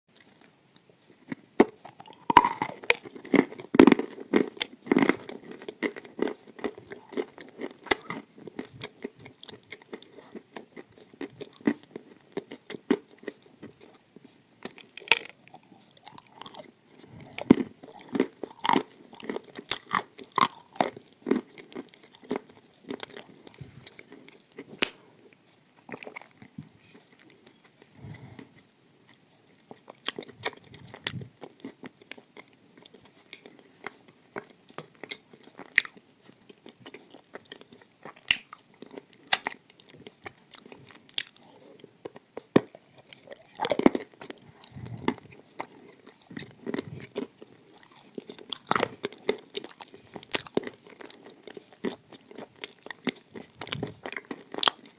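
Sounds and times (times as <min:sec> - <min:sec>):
chewing hard baked clay: 0:00.1 - 0:54.9.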